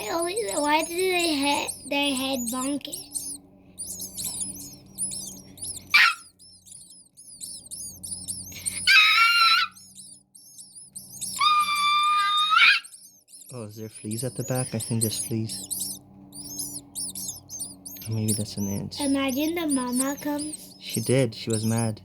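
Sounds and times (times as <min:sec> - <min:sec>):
baby birds chirping: 0:00.0 - 0:22.0.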